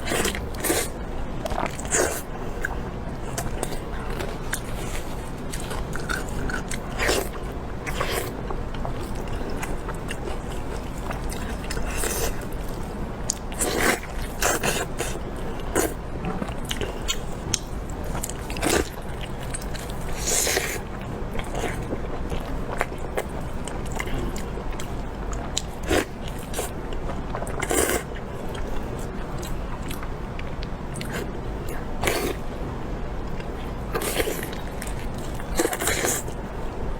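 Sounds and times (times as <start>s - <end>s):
person chewing: 0.0s - 32.5s, 33.3s - 36.4s.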